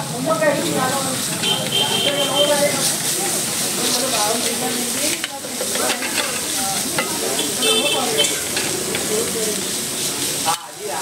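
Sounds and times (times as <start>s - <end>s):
egg sizzling in oil: 0.4s - 11.0s
metal spatula scraping griddle: 0.5s - 10.6s.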